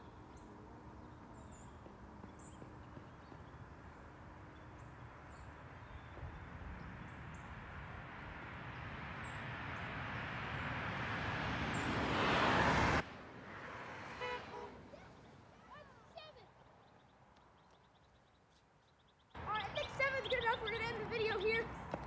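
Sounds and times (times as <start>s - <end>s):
vehicle approaching on road: 0.0s - 18.0s.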